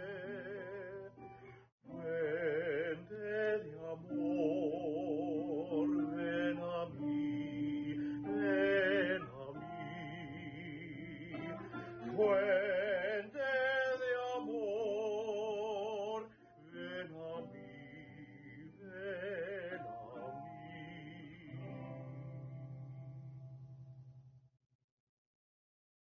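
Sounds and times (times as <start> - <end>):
man singing a slow hymn: 0.0 - 1.2, 1.9 - 22.3.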